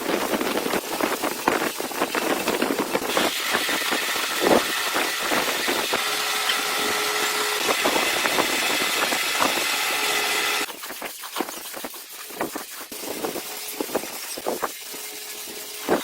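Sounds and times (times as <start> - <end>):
machine running with a hiss: 0.0 - 10.7, 12.8 - 16.0.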